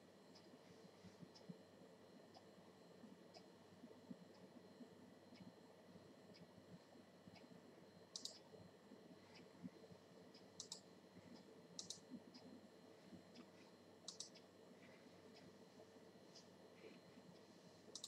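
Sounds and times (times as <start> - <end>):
faint room noise: 0.0 - 18.0.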